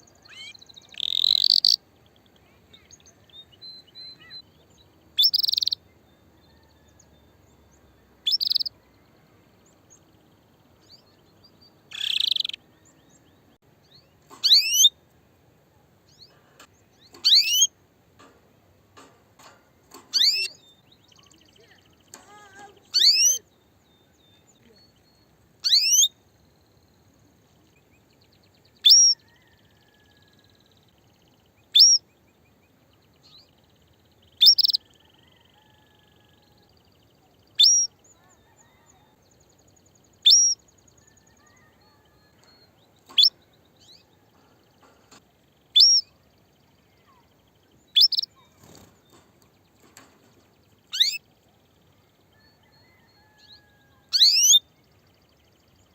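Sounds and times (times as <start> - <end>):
canary chirps: 0.0 - 7.1, 8.1 - 9.0, 10.0 - 13.0, 13.8 - 15.0, 16.1 - 18.3, 19.0 - 26.2, 27.6 - 32.1, 33.2 - 55.9.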